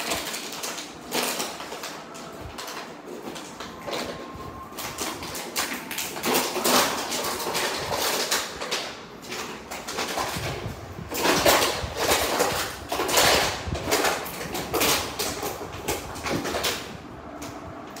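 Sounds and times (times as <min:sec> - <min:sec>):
dog chewing plastic bottle: 0:00.0 - 0:18.0.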